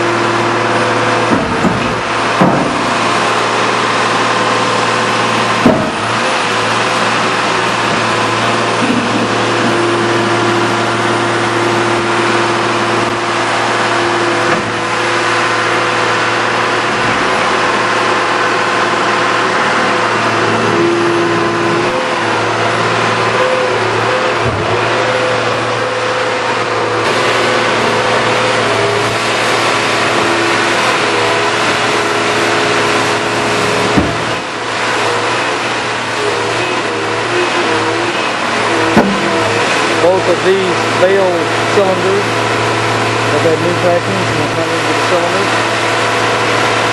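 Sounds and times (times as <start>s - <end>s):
diesel engine running: 0.0s - 46.9s
high whine: 0.0s - 46.9s.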